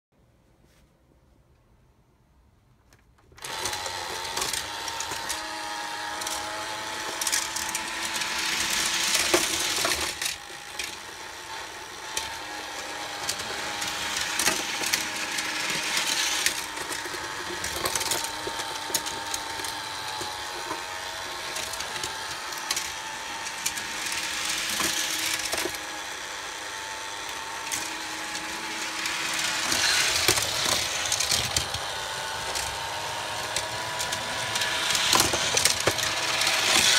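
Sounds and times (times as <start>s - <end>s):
toy cars rattling on plastic: 3.4s - 36.9s
toy motor whirring: 3.4s - 36.9s.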